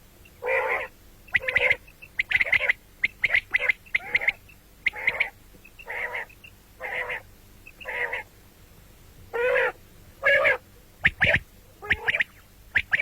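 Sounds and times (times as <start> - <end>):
quail calling: 0.2 - 8.3, 9.3 - 13.0.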